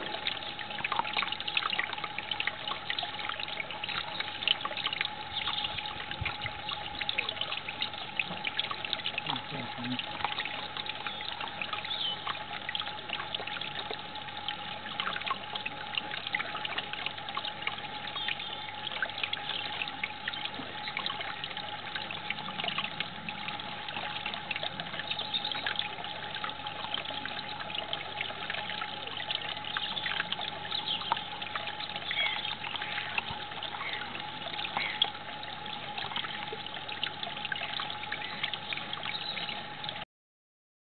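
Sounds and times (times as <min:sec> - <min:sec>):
water trickling and splashing: 0:00.0 - 0:40.0.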